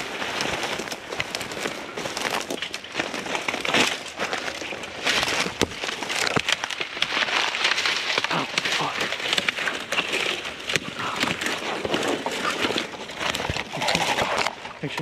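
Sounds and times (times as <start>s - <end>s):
brush rustling underfoot: 0.0s - 15.0s
twigs snapping: 0.0s - 15.0s.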